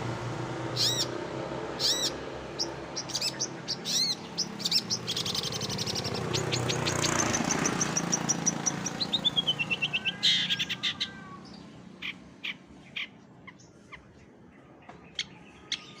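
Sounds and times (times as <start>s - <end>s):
songbird chirping trills: 0.7s - 16.0s.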